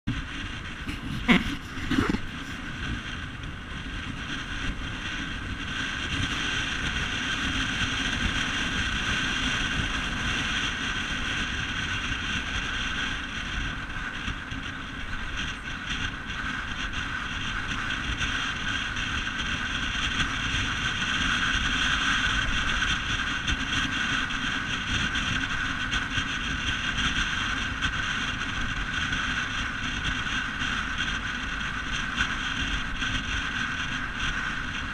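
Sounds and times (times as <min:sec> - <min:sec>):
motorbike engine running: 0:00.1 - 0:34.9
wind noise on microphone: 0:00.1 - 0:34.9.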